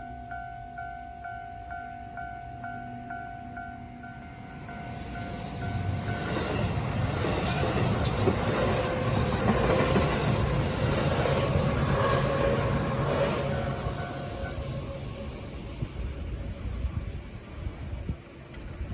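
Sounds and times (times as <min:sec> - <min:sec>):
electric train passing roar: 0:00.0 - 0:18.9.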